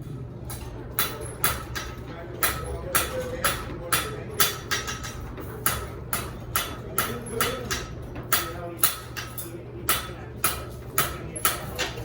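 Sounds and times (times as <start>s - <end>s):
hammer ringing on anvil: 1.0s - 12.0s.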